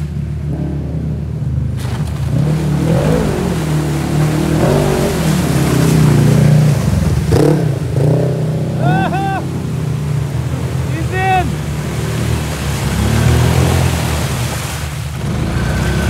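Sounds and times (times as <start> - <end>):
engine revving: 0.0 - 16.0
water and mud splashing: 0.0 - 16.0.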